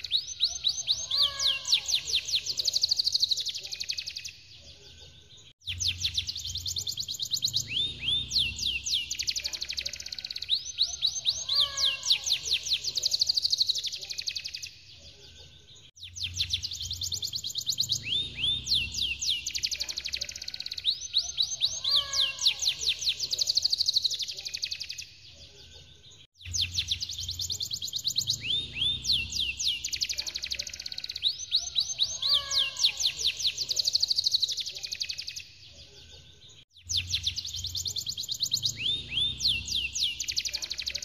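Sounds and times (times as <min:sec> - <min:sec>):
canary singing high trills: 0:00.0 - 0:41.0.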